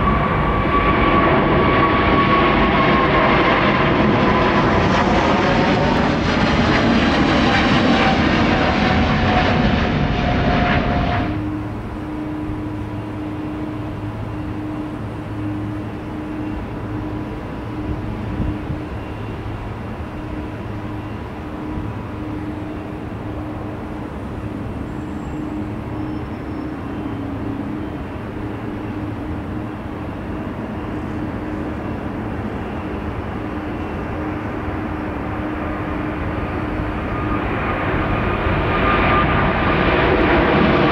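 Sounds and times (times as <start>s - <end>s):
distant jet engines running: 0.0s - 40.9s
jet engines at takeoff power: 0.0s - 40.9s.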